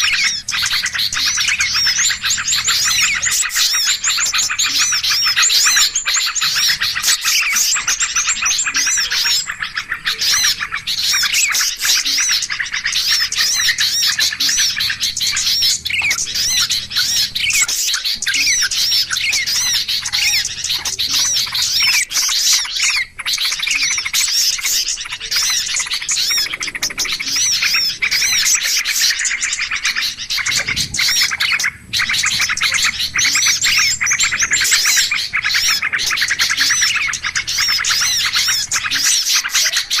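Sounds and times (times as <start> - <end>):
songbirds chattering and chirping: 0.0 - 40.0.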